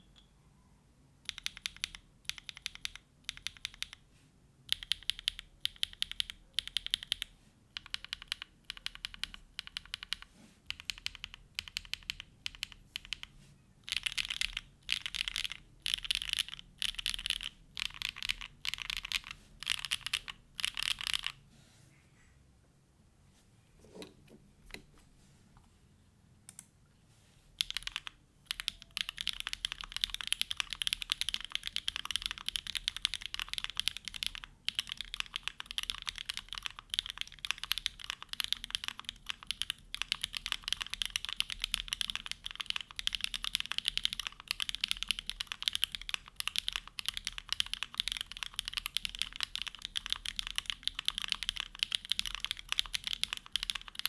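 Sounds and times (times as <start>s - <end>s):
fast typing on mechanical keyboard: 1.3s - 4.0s, 4.7s - 21.4s, 27.6s - 54.0s.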